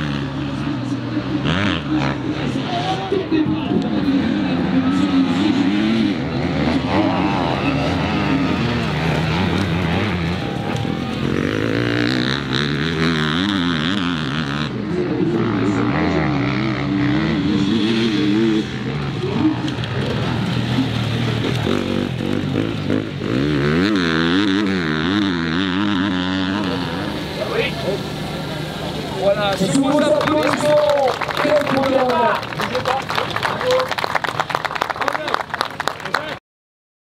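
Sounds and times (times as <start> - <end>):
dirt bike engines revving: 0.0 - 36.4.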